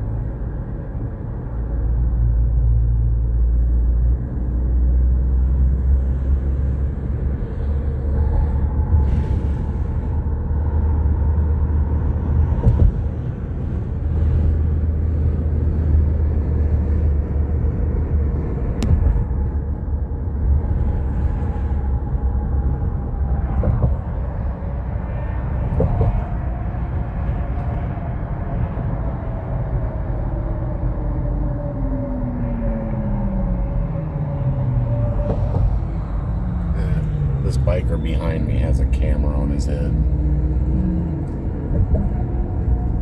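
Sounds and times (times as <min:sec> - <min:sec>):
vehicle engine and road rumble: 0:00.0 - 0:43.0.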